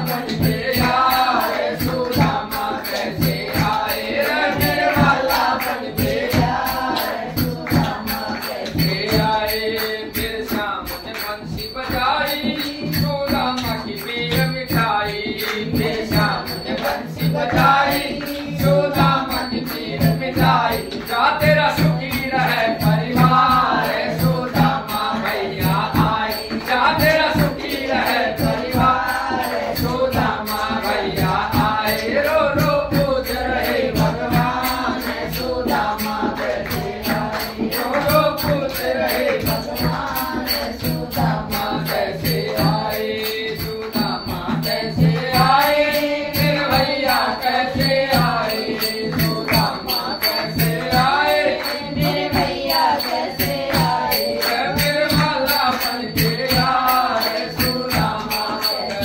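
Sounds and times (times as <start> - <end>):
women singing in unison: 0.0 - 10.6, 15.1 - 59.0
hand-clapping: 0.0 - 59.0.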